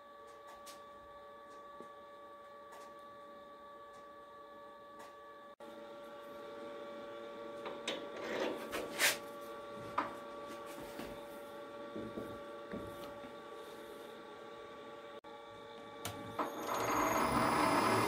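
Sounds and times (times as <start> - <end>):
workshop hum: 0.0 - 18.0.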